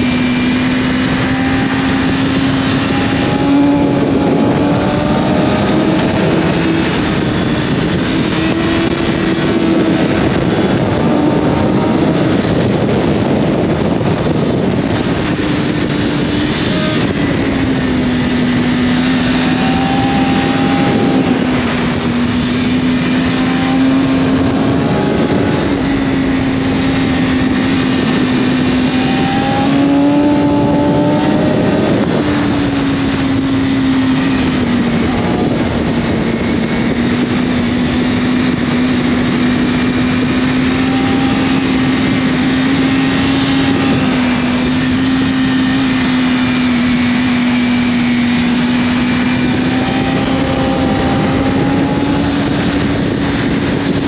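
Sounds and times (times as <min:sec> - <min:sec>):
motorcycle engine at high revs: 0:00.0 - 0:54.0
wind rush on microphone: 0:00.0 - 0:54.0.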